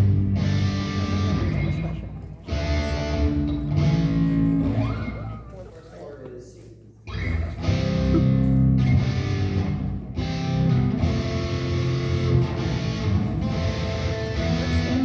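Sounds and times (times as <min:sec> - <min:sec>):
live band music led by guitar: 0:00.0 - 0:05.6, 0:07.1 - 0:15.0.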